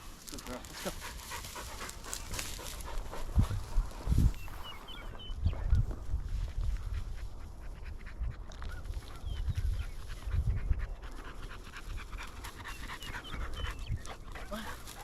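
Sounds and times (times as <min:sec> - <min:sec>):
footsteps crackling through dry brush: 0:00.0 - 0:07.6, 0:08.4 - 0:10.4, 0:11.0 - 0:15.0
dog panting: 0:00.8 - 0:05.0, 0:06.8 - 0:15.0
wind rumble on microphone: 0:01.0 - 0:15.0.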